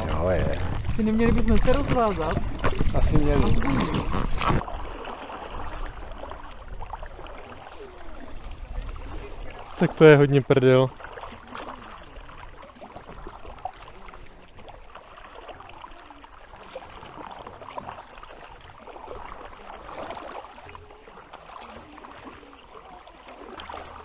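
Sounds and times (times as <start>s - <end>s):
water lapping and splashing: 0.0s - 24.0s.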